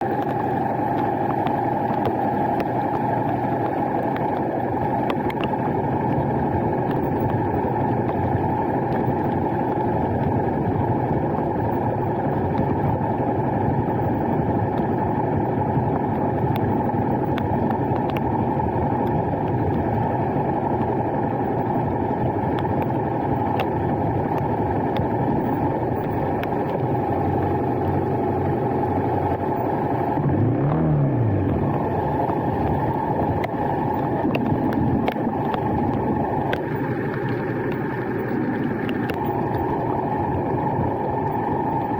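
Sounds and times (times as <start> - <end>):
faint ticks: 0.0 - 28.5, 31.5 - 41.9
vehicle engine rumble: 0.0 - 41.9.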